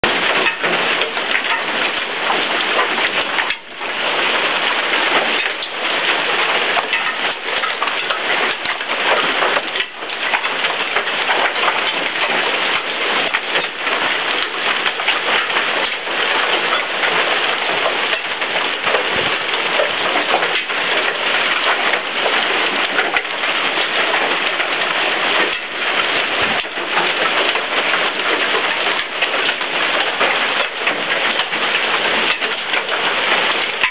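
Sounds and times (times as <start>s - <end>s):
heavy rain and hail: 0.0s - 33.9s.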